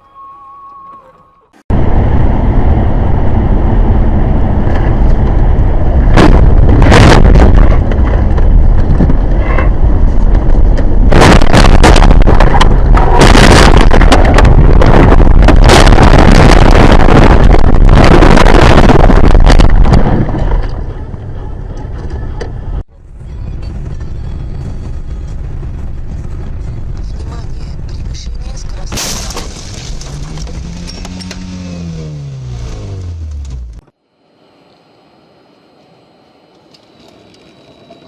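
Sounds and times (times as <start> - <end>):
loud vehicle and road noise: 1.7 - 34.4.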